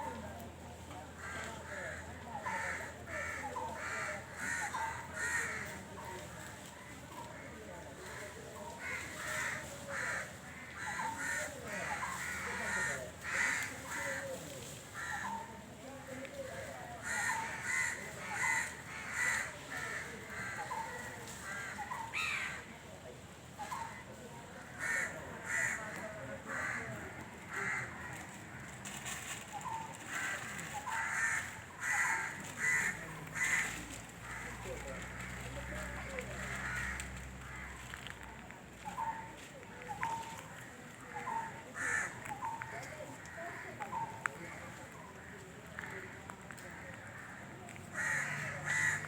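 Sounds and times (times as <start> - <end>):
crows cawing: 1.2 - 6.0, 7.2 - 15.5, 16.4 - 22.7, 24.6 - 28.8, 29.6 - 38.2, 38.9 - 49.0.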